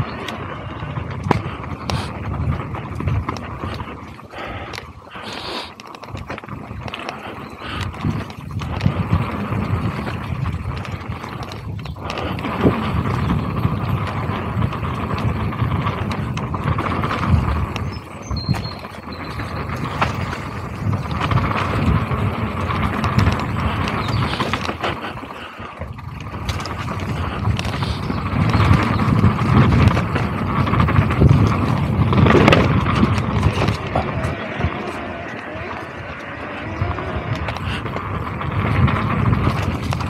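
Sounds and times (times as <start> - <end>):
bike rattling and knocking: 0.0 - 40.0
bike tyres rolling over dirt: 0.0 - 40.0.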